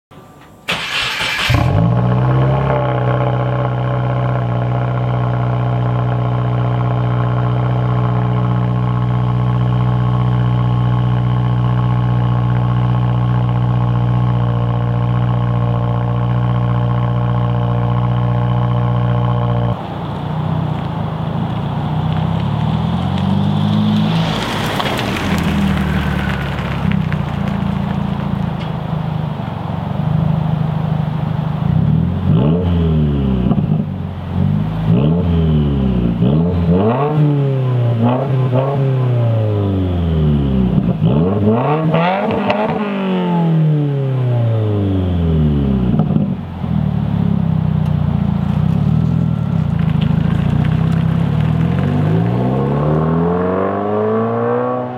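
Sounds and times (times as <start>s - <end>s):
car engine idling: 0.1s - 41.6s, 44.1s - 52.9s.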